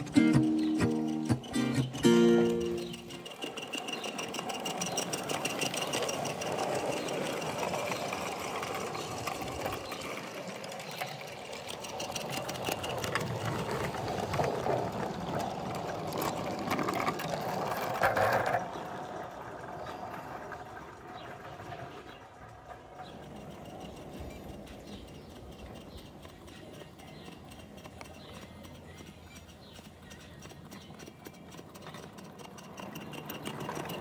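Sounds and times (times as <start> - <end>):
model steam locomotive chuffing: 0.0 - 16.9, 19.0 - 34.0
small wheels clattering on rails: 0.0 - 34.0.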